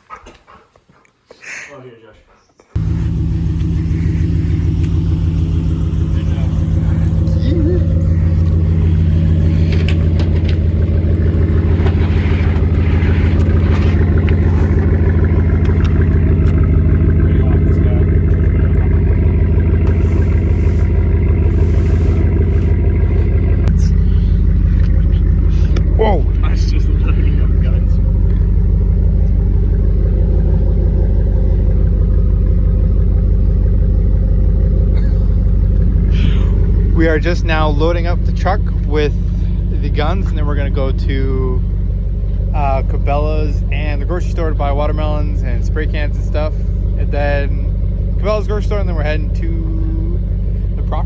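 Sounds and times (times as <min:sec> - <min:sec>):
car engine and road drone: 0:02.8 - 0:51.0.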